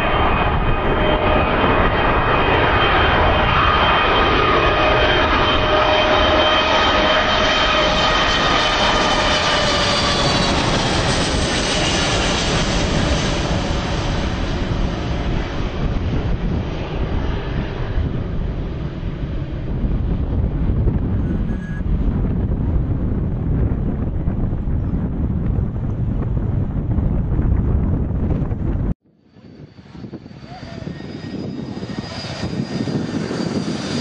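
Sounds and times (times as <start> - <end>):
jet airliner passing overhead: 0.0 - 34.0.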